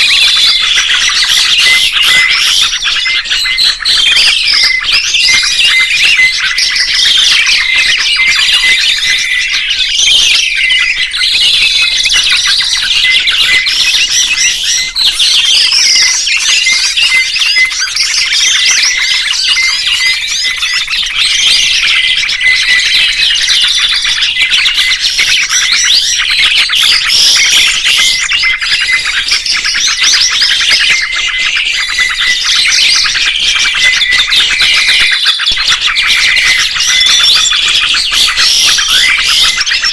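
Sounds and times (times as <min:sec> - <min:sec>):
songbird singing and chirping: 0:00.0 - 0:39.9.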